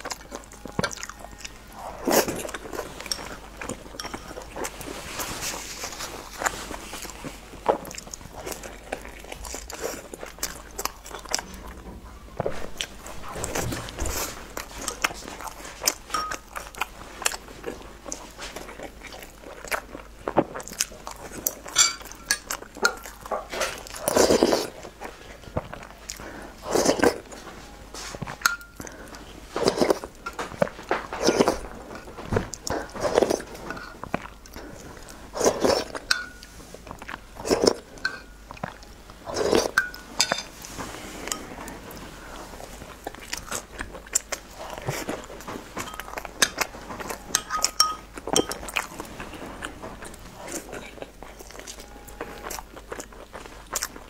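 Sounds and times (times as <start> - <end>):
person chewing soft food: 0.0 - 54.0.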